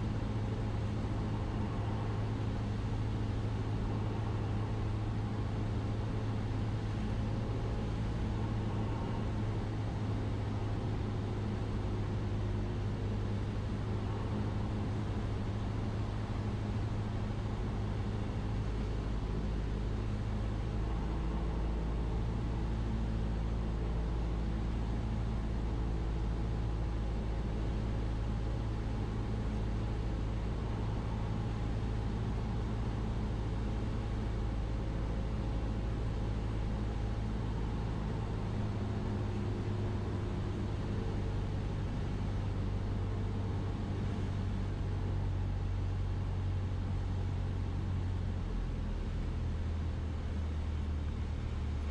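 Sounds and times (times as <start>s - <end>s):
propeller plane engine droning: 0.0s - 51.9s.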